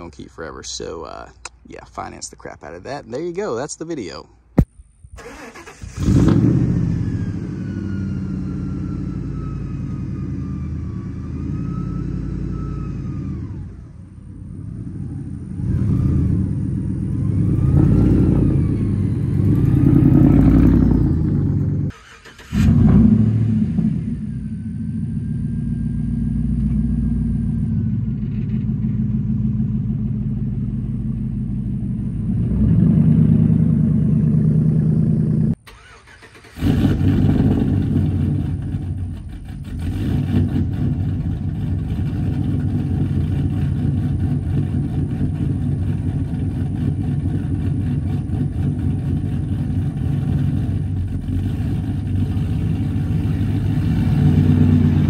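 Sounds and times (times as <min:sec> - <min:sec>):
truck engines revving: 0:05.2 - 0:55.0.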